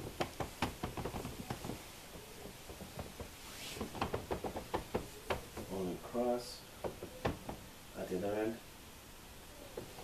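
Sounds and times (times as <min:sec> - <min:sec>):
wooden bed slats creaking and clicking: 0:00.0 - 0:07.8, 0:09.7 - 0:10.0.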